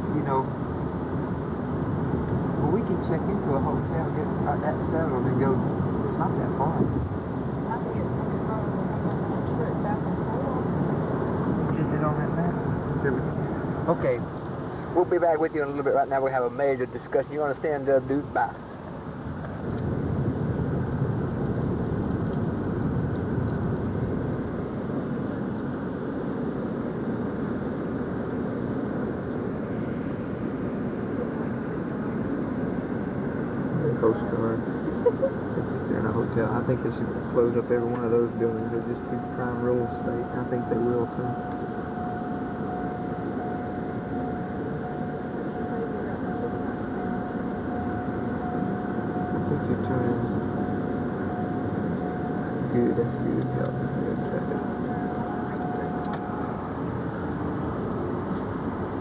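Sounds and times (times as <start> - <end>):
car road and engine noise: 0.0 - 59.0
thin steady whine: 0.0 - 59.0.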